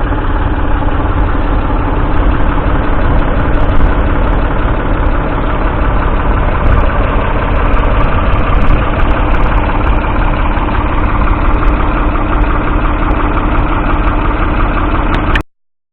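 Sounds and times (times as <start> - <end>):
diesel tractor engine running: 0.0 - 15.4.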